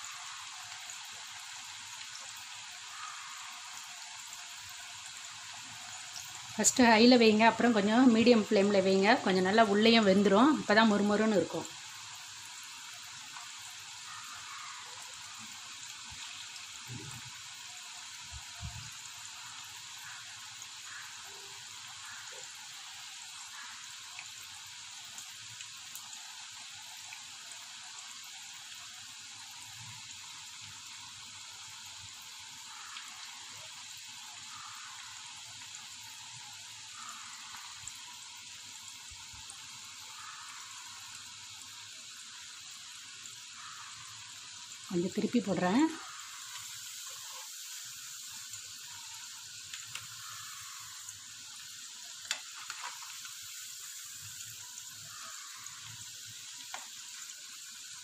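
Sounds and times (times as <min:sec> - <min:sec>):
food deep-frying in oil: 0:00.0 - 0:58.0.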